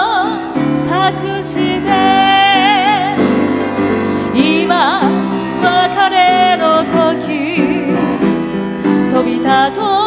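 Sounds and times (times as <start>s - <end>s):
piano accompaniment: 0.0s - 10.0s
woman singing with vibrato: 0.0s - 10.0s.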